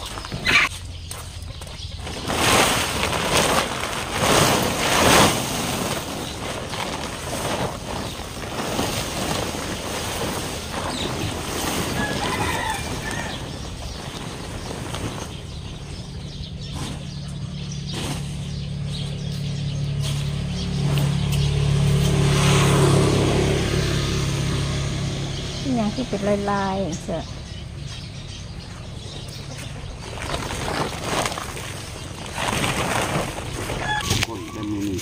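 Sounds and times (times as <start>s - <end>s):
plastic tarpaulin rustling: 0.0s - 0.8s, 1.4s - 21.2s, 25.7s - 35.0s.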